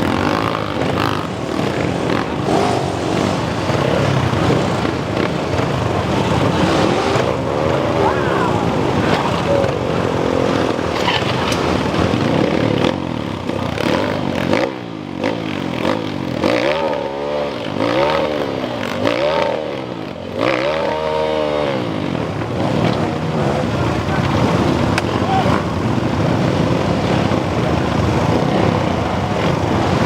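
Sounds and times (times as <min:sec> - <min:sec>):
motocross engines revving: 0:00.0 - 0:30.0.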